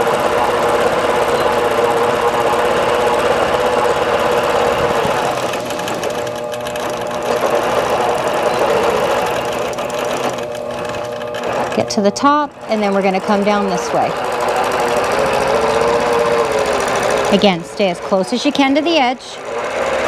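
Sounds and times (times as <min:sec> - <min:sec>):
quilting machine humming: 0:00.0 - 0:20.0.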